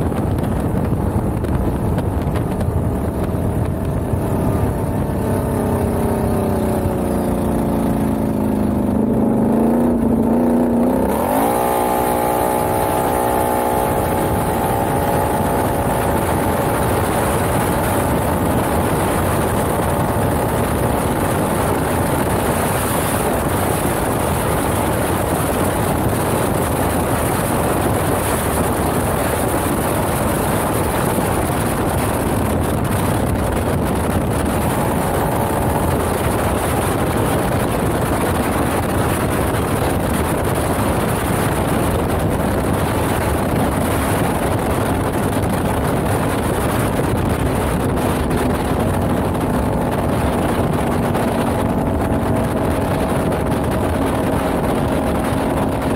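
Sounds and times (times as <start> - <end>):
wind rush: 0.0 - 55.9
quad bike engine revving: 3.1 - 55.9
gravel noise: 9.8 - 55.9.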